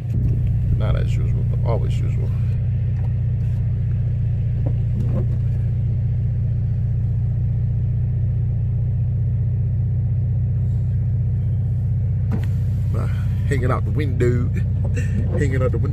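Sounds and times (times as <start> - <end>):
car driving on snowy road: 0.0 - 15.9.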